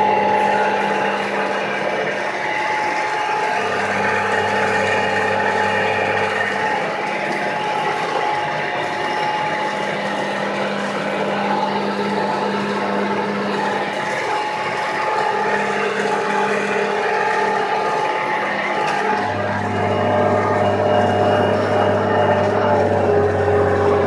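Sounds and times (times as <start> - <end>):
tractor engine running under load: 3.0 - 24.0.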